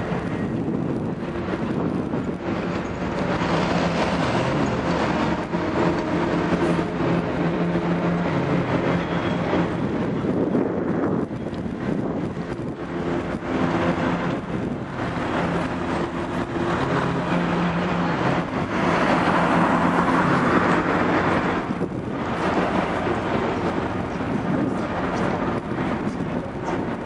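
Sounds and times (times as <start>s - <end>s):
traffic engine hum: 0.0s - 27.0s
vehicle passing: 1.3s - 11.2s, 11.9s - 27.0s.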